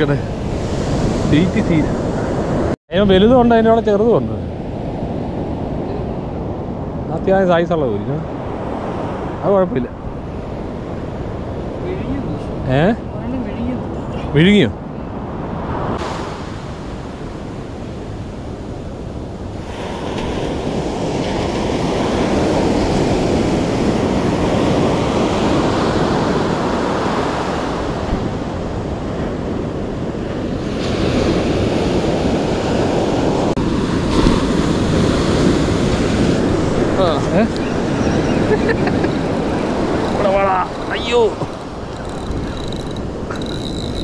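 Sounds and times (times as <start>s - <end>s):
surf washing up beach: 0.0s - 44.0s
wind buffeting microphone: 0.0s - 44.0s.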